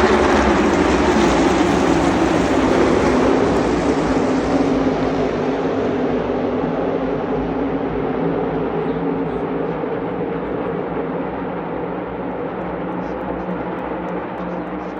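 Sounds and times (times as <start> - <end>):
race car engines drone: 0.0 - 14.9.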